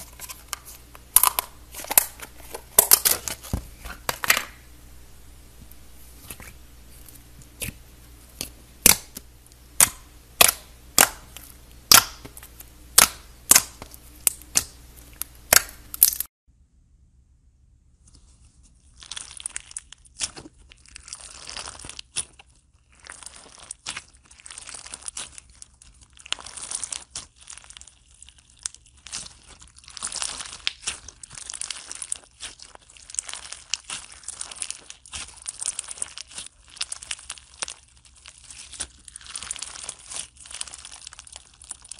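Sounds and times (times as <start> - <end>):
crunchy slime crinkling: 0.0 - 4.7, 5.6 - 16.3, 18.0 - 41.9.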